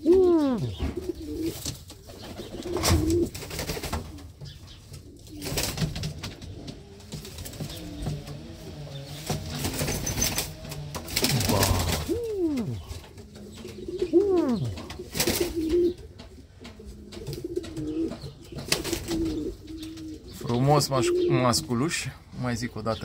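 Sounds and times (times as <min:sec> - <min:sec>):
pigeon cooing: 0:00.0 - 0:22.2.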